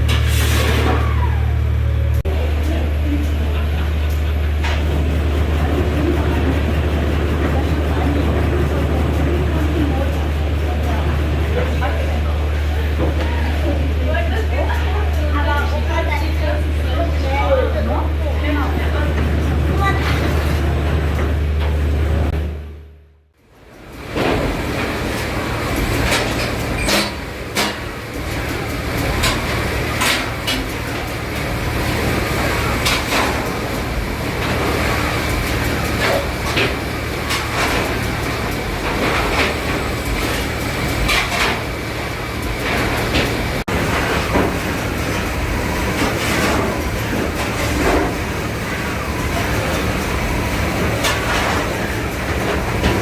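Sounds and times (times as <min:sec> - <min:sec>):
steam engine rumbling: 0:00.0 - 0:22.9, 0:23.6 - 0:53.0.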